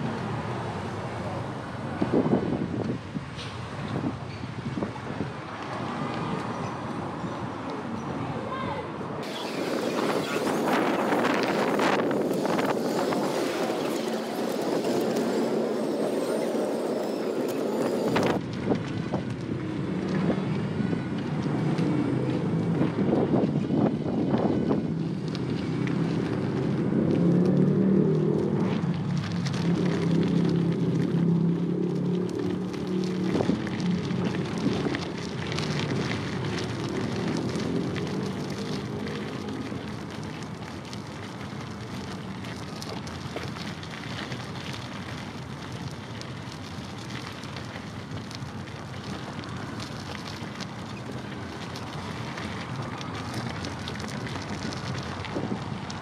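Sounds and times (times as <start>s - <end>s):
wind buffeting microphone: 1.8s - 6.5s, 9.2s - 27.4s, 28.3s - 56.0s.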